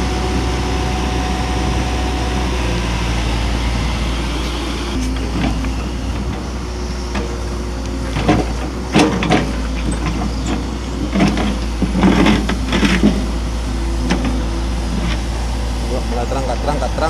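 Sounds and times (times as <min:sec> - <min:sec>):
excavator diesel engine rumble: 0:00.0 - 0:17.0.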